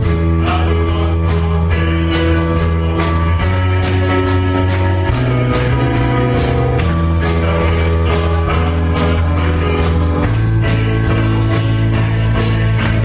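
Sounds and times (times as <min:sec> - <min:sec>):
praise band music: 0:00.0 - 0:13.0
steady drum beat: 0:00.0 - 0:13.0.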